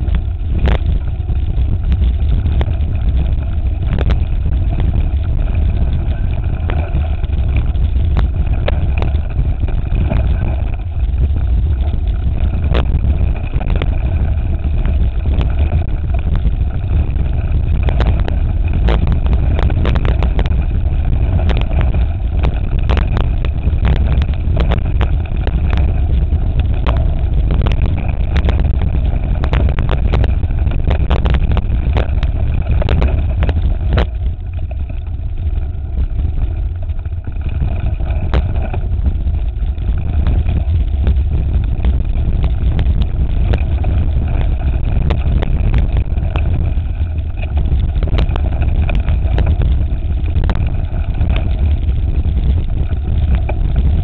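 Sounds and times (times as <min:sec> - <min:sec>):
bike rattling over stones: 0:00.0 - 0:54.0
wind rumbling on microphone: 0:00.0 - 0:54.0.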